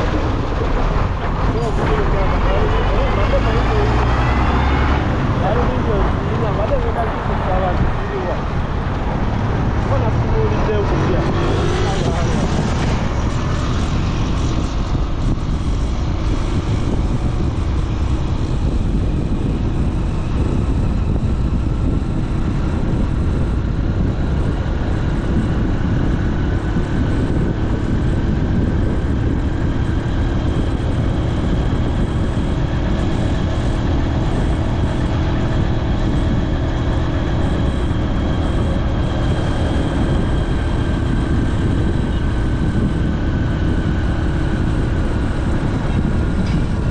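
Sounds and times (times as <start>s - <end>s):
faint engine whine: 0.0s - 46.9s
motorcycle engine drone: 0.0s - 46.9s
wind rush on microphone: 0.0s - 46.9s.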